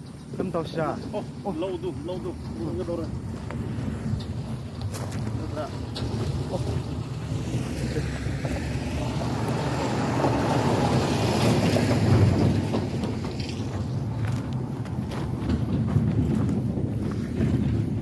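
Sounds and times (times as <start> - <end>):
wind rushing over microphone: 0.2 - 18.0.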